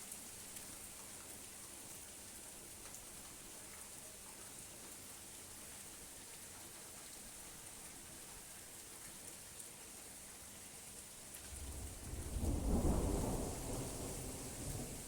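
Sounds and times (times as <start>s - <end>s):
soft rain falling: 0.0s - 15.0s.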